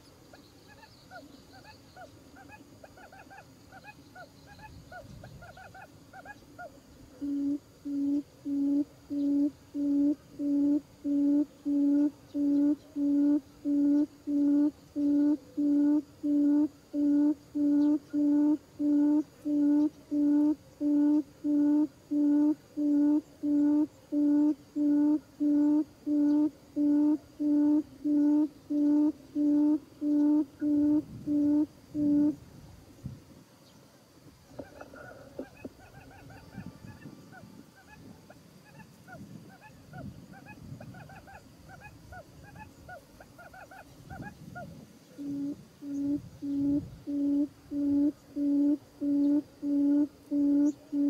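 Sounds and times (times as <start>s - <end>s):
low hooting bird call: 0.0s - 32.4s, 34.5s - 51.0s.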